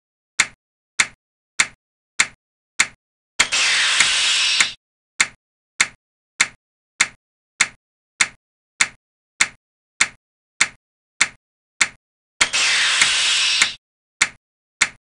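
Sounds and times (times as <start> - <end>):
sharp synthetic clicks: 0.4 - 15.0.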